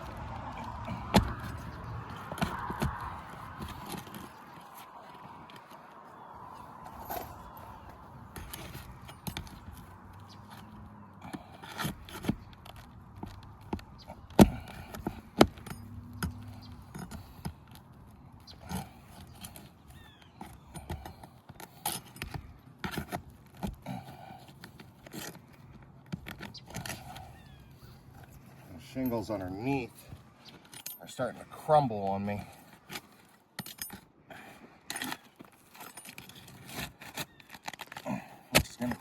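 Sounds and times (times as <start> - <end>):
tools scraping on shingles: 0.0 - 39.0.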